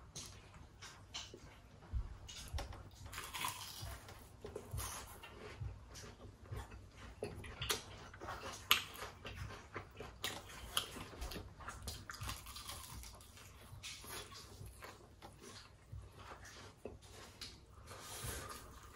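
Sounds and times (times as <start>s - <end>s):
person chewing crunchy food: 0.0s - 18.9s.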